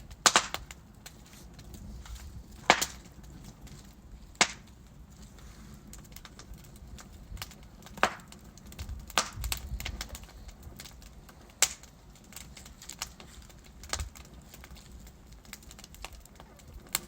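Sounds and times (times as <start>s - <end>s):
sharp pops from burning logs: 0.0s - 17.0s
soft rustle of flames: 0.0s - 17.0s
wood fire crackling: 0.0s - 17.0s.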